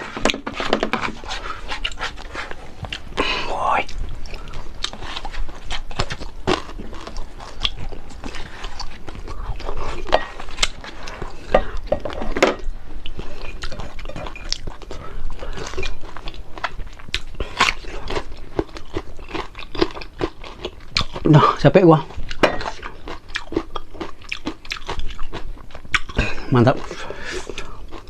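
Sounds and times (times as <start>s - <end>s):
person crunching and chewing food: 0.0s - 28.0s.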